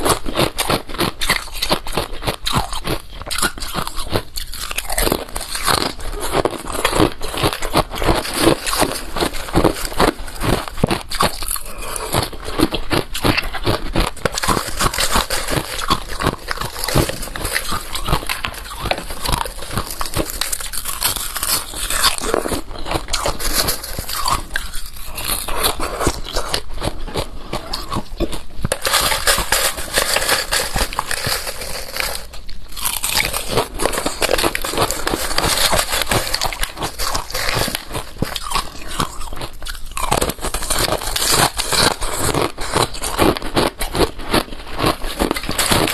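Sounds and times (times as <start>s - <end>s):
crunching and chewing ice: 0.0s - 45.9s.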